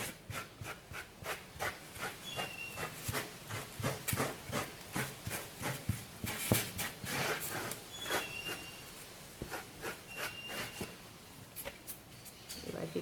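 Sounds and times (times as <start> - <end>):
paint scrubbing on styrofoam: 0.0 - 11.0.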